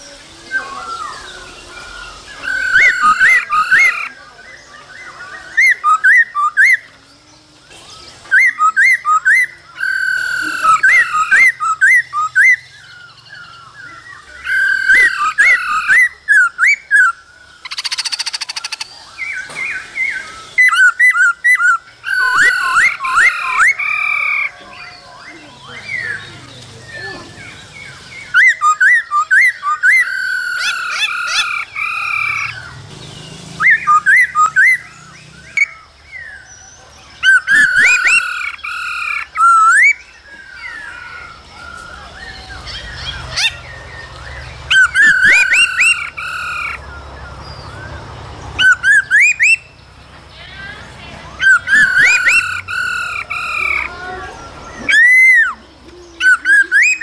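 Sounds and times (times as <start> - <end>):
bird singing whistled notes: 0.0 - 50.0, 50.6 - 57.0.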